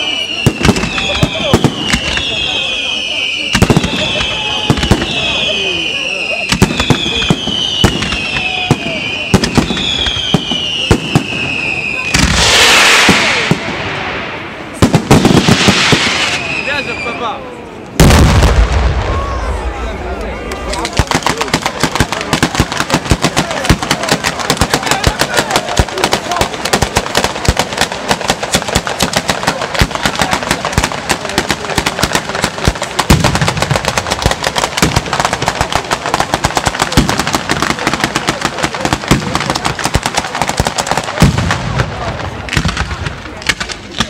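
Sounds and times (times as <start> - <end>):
firecrackers banging: 0.0 - 17.0, 17.9 - 44.0.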